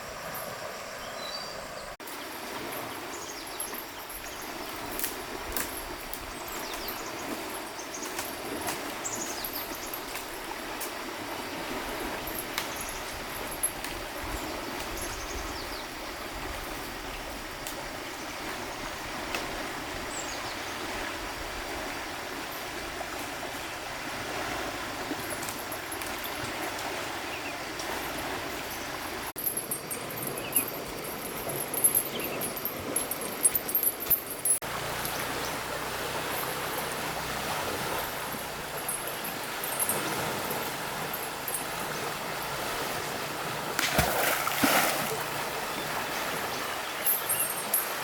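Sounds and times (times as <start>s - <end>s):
stream water rushing: 0.0s - 48.0s
water splashes: 2.0s - 48.0s.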